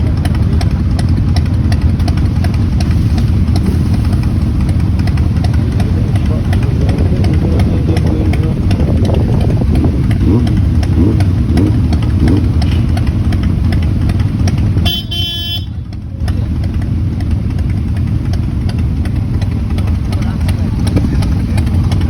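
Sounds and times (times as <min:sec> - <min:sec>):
motorcycle engine revving: 0:00.0 - 0:22.0
motorcycle engines idling: 0:00.0 - 0:22.0.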